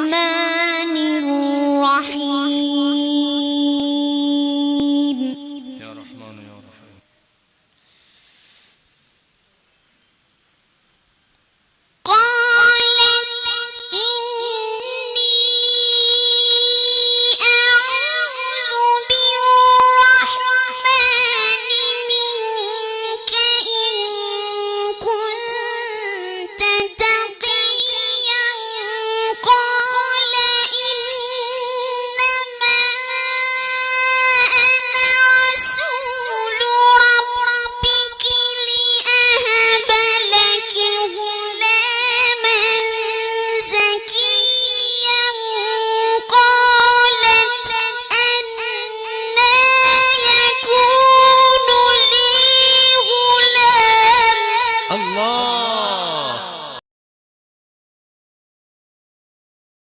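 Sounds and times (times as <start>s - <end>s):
child singing ornamented melody: 0.0s - 5.8s, 12.1s - 56.4s.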